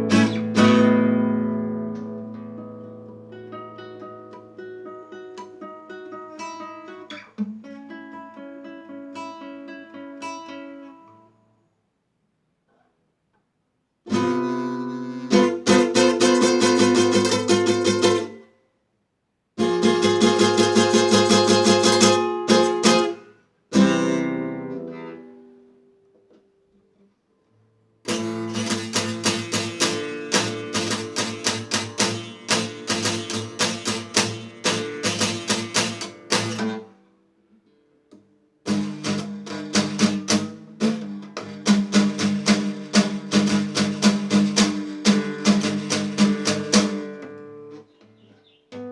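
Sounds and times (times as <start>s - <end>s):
acoustic guitar strumming: 0.0s - 11.2s, 14.1s - 18.5s, 19.6s - 26.3s, 28.0s - 37.8s, 38.6s - 48.9s.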